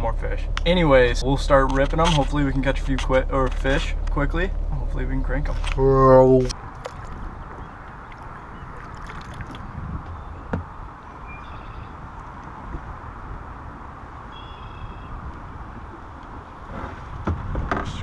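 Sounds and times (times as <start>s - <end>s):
wind rumbling on microphone: 0.0s - 18.0s
water noise: 0.4s - 17.8s.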